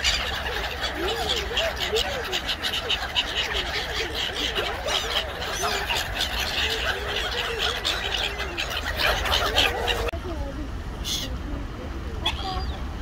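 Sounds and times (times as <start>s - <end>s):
ducks and geese calling: 0.0s - 10.2s, 11.0s - 11.4s, 12.2s - 13.0s
gulls calling: 0.0s - 10.2s, 11.0s - 13.0s.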